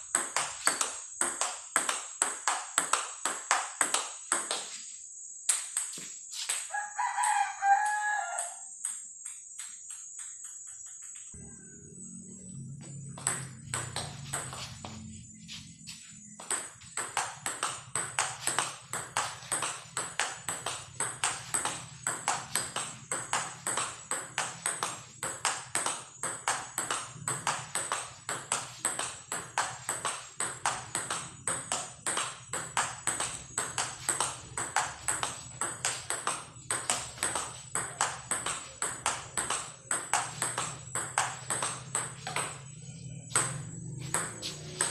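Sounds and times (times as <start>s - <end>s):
table tennis ball knocking: 0.0s - 4.8s, 5.5s - 11.5s, 12.6s - 44.9s.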